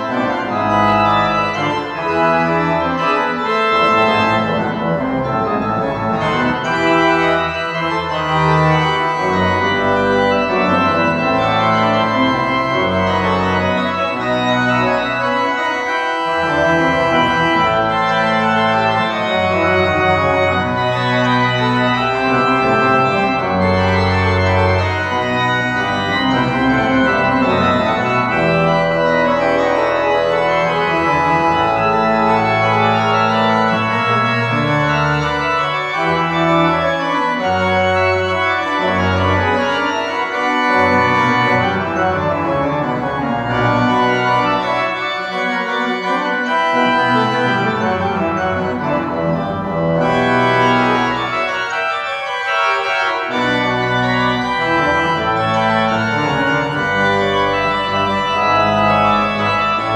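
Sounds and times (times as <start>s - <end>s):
pipe organ contrapuntal music: 0.0s - 59.9s.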